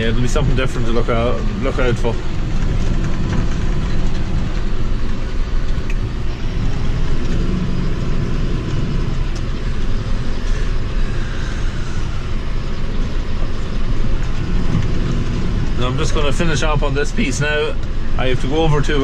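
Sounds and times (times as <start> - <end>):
tractor engine running steadily: 0.0 - 19.0.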